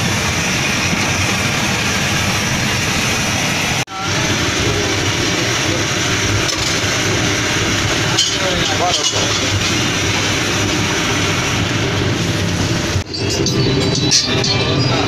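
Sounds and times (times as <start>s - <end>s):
diesel generator droning: 0.0s - 15.0s.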